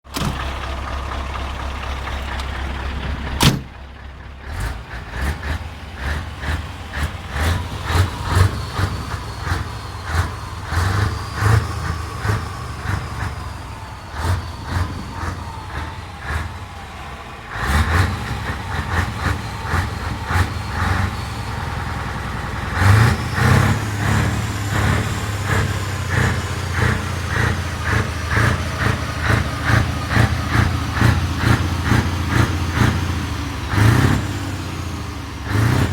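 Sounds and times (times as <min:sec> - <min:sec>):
truck engine pulsing exhaust: 0:00.0 - 0:35.9.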